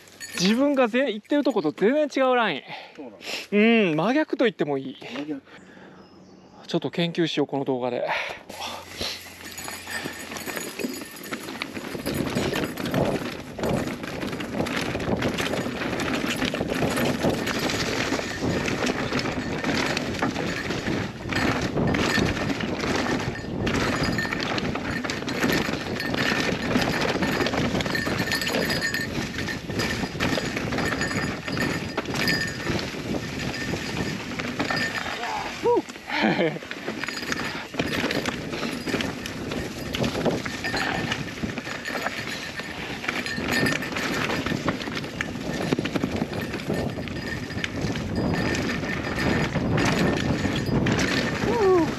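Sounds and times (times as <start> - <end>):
bike clattering over bumps: 9.2 - 51.9
tyres rolling over dirt: 9.2 - 51.9.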